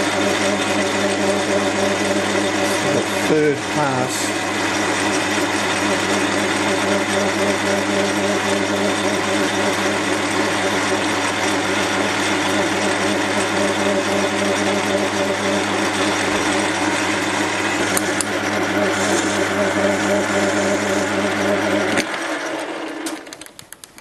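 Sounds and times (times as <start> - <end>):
metal lathe cutting brass: 0.0 - 23.1.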